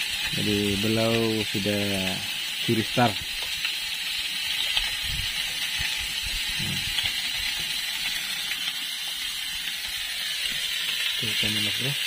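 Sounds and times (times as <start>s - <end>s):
fish sizzling on grill pan: 0.0s - 12.0s.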